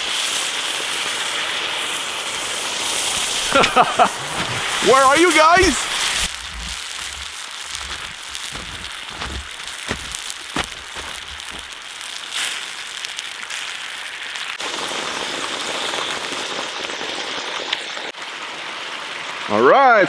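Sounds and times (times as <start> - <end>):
potatoes sizzling in a pan: 0.0 - 20.0.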